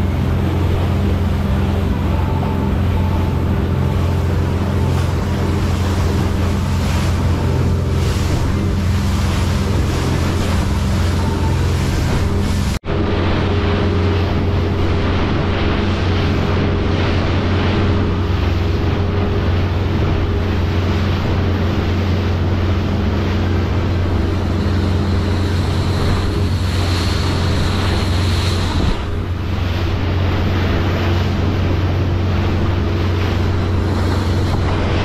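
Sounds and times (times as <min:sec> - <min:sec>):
motorboat engine drone: 0:00.0 - 0:35.0
water rushing past hull: 0:00.0 - 0:35.0
wind buffeting microphone: 0:00.0 - 0:35.0.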